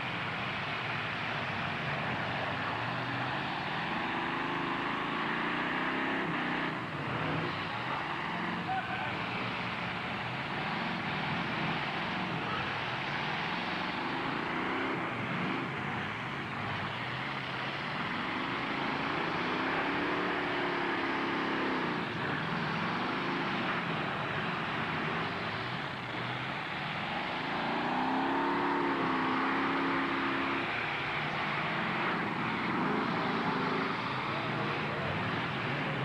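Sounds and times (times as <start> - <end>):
truck engines revving: 0.0 - 36.0.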